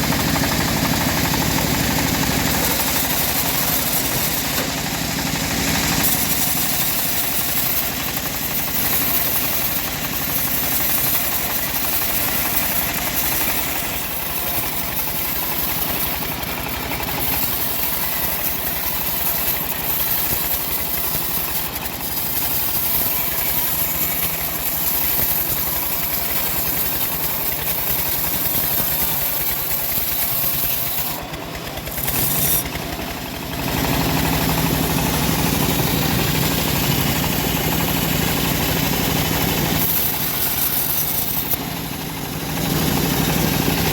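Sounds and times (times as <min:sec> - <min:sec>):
band blade sawing log: 0:00.0 - 0:43.9
sawmill engine running: 0:00.0 - 0:43.9.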